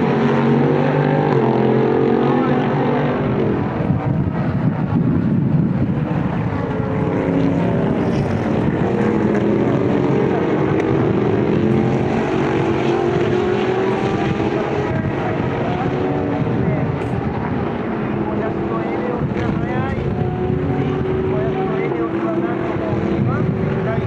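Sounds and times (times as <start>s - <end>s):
racing car engines passing: 0.0s - 24.0s.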